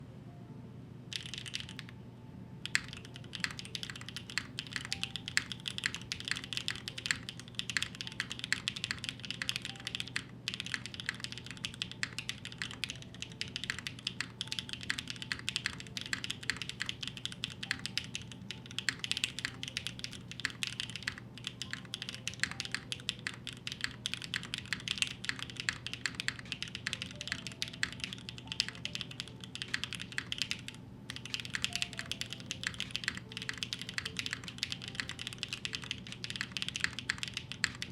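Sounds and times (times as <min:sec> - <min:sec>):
low steady hum: 0:00.0 - 0:37.9
fast typing on mechanical keyboard: 0:01.1 - 0:02.0, 0:02.6 - 0:37.9.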